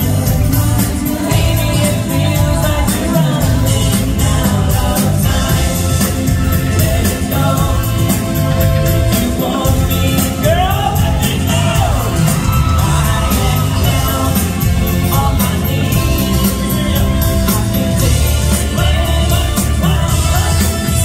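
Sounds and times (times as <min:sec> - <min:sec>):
horn section: 0:00.0 - 0:21.0
live pop band: 0:00.0 - 0:21.0
man singing sliding notes: 0:00.0 - 0:21.0.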